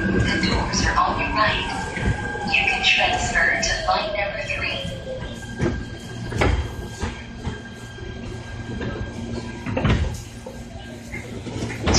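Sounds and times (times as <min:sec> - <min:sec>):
electric train rumble: 0:00.0 - 0:11.9.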